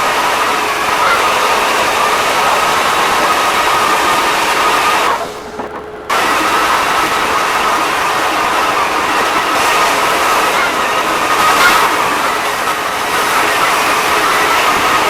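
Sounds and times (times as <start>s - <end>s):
floor sander running: 0.0s - 15.0s.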